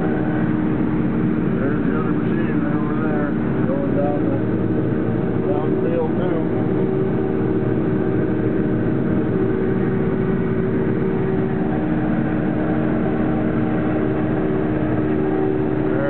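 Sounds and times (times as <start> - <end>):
combine harvester droning: 0.0 - 16.0.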